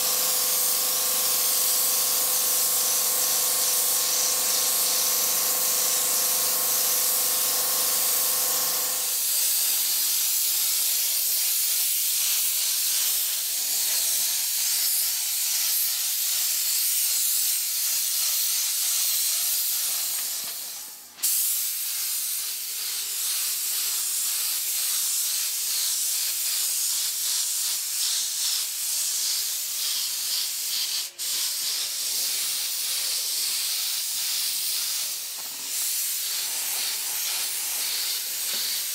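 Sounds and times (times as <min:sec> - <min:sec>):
paint spray gun hissing: 0:00.0 - 0:38.9.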